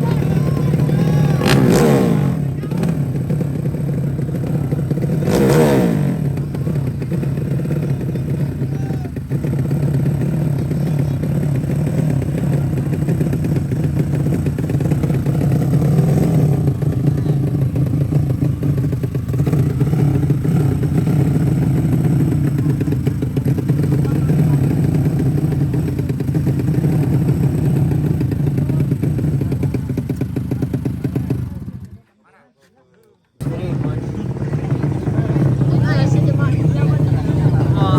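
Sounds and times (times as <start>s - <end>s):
motorcycle engines revving: 0.0s - 32.0s, 33.4s - 37.9s.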